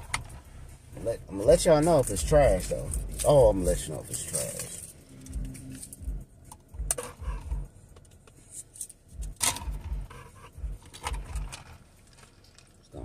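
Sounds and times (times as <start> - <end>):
sharp clicks and rustles: 2.0 - 13.0.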